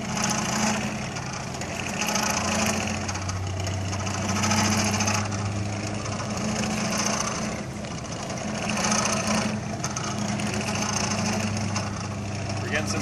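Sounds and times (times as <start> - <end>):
electric motors humming and whining: 0.0 - 13.0.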